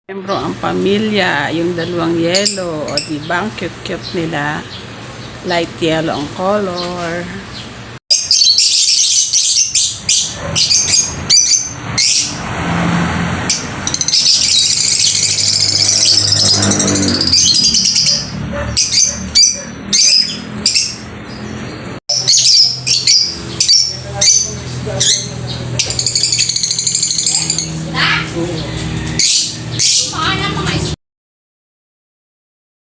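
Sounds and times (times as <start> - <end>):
pet birds chirping and chattering: 0.3 - 12.4, 13.4 - 31.0.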